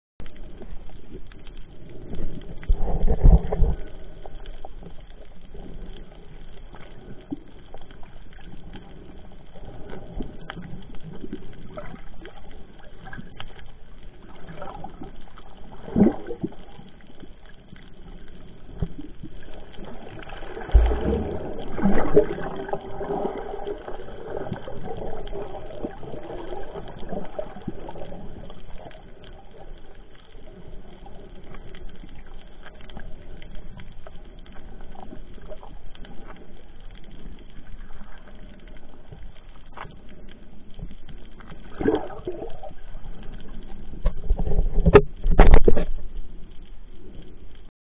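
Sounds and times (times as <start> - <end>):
water gurgling: 0.2 - 46.4
muffled underwater water wash: 0.2 - 47.7.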